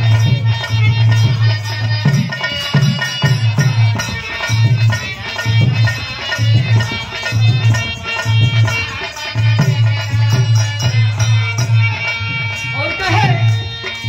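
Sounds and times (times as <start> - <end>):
hand drums beating: 0.0 - 14.0.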